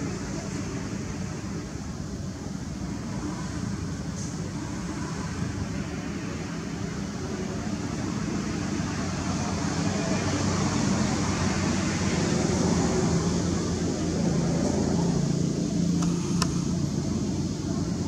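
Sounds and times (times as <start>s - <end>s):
low engine-like hum: 0.0s - 18.0s
steady high hiss: 0.0s - 18.0s.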